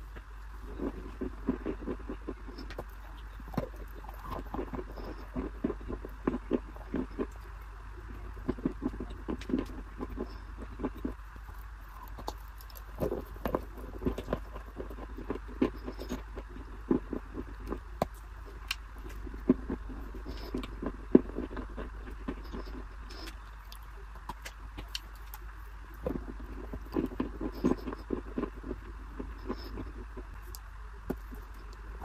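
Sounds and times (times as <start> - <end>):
low hum: 0.0 - 32.0
chewing crunches: 0.5 - 32.0.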